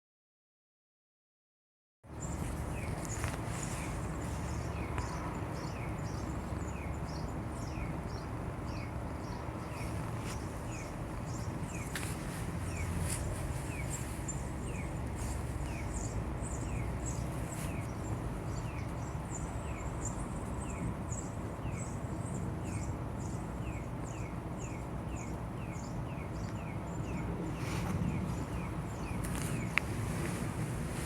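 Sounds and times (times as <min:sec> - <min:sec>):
low outdoor rumble: 0:02.1 - 0:31.0.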